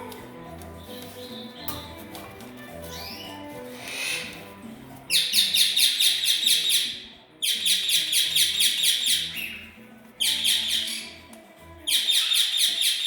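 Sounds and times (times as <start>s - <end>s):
birds chattering harshly: 0.7s - 13.0s.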